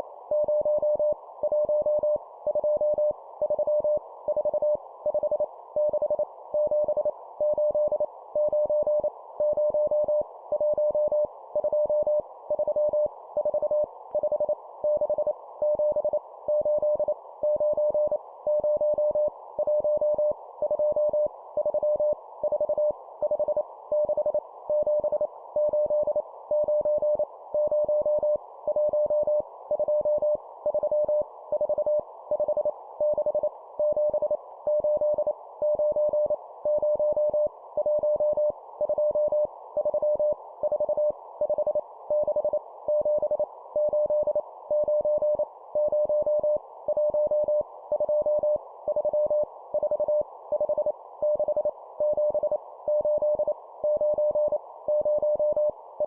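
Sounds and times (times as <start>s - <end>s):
morse code beeps: 0.4s - 55.7s.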